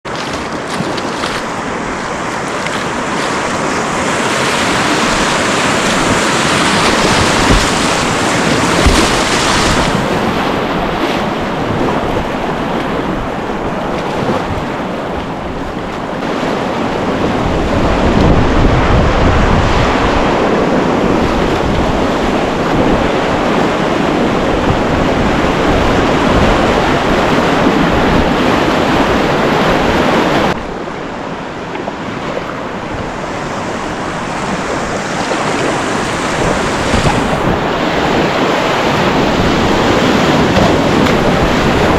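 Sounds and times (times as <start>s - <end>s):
rushing wind: 0.0s - 41.9s
surf: 0.0s - 41.9s
wind buffeting microphone: 0.0s - 41.9s.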